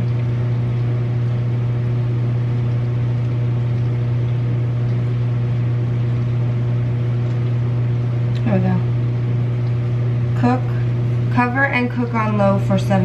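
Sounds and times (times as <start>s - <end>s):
low electrical hum with hiss: 0.0s - 13.0s.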